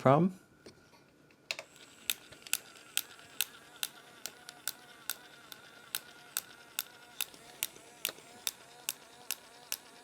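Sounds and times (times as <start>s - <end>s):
sharp mechanical clicks: 1.5s - 10.0s
toy motor whine: 1.6s - 10.0s.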